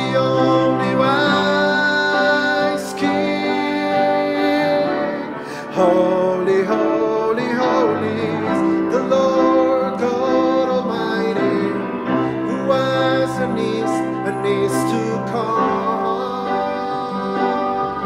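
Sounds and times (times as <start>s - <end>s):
man singing: 0.0s - 18.0s
piano chords: 0.0s - 18.0s.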